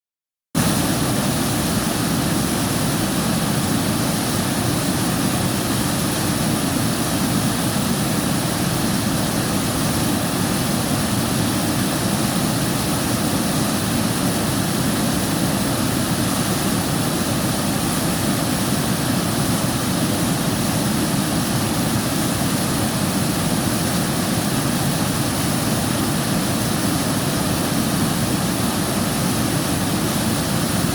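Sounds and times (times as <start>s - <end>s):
river water flowing: 0.6s - 30.9s.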